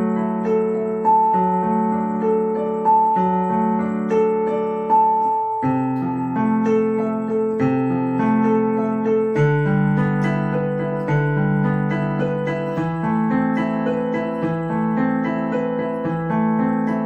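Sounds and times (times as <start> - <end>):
piano playing broken chords: 0.0 - 17.0.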